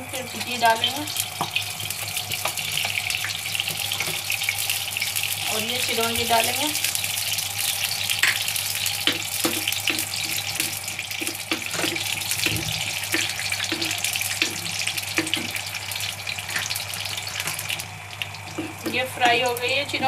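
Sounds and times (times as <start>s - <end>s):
seeds sizzling in ghee: 0.0s - 20.0s.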